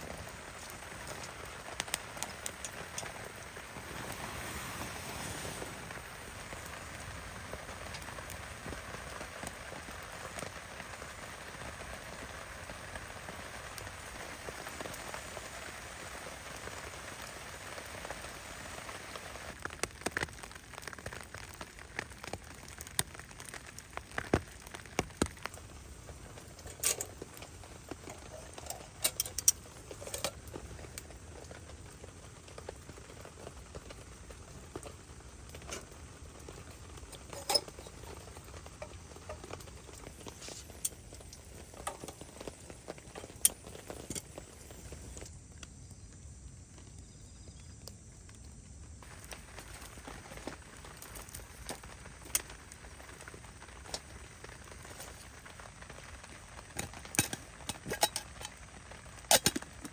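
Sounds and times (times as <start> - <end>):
heavy rain: 0.0 - 45.2, 49.0 - 59.9.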